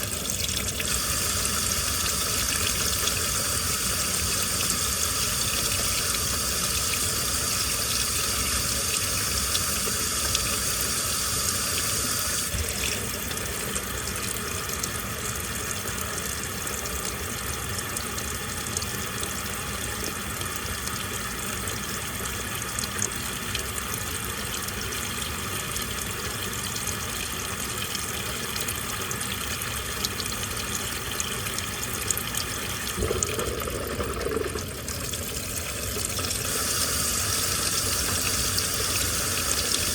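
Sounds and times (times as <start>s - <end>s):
water pouring into washing machine: 0.0s - 39.9s
water sound in drum: 0.0s - 39.9s.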